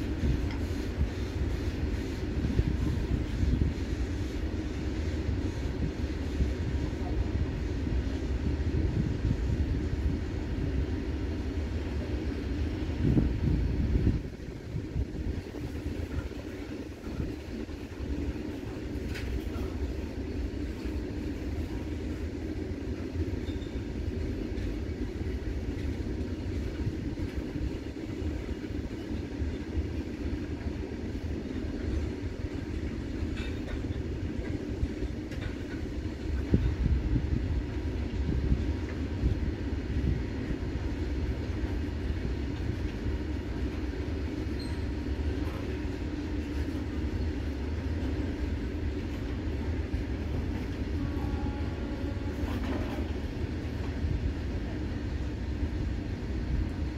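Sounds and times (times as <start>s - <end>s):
steel wheels rumbling on rails: 0.0s - 56.9s.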